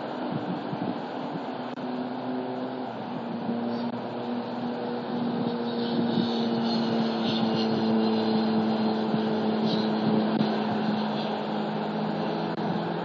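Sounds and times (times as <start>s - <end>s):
noisy background: 0.0s - 13.0s
passing engine drone: 0.0s - 13.0s.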